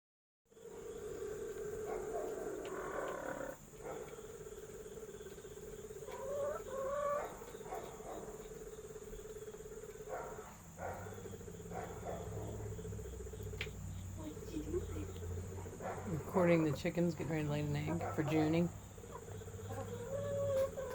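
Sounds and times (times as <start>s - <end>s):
crickets chirring: 0.5s - 20.9s
hens calling and clucking: 0.8s - 20.9s.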